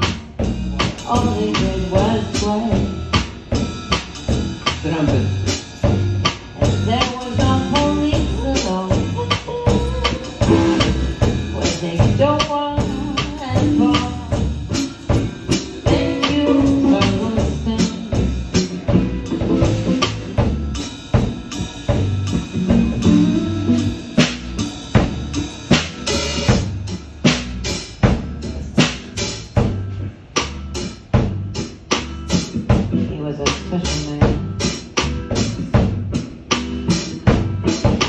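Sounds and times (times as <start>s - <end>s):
band music: 0.0s - 38.0s
drum kit beat: 0.0s - 38.0s.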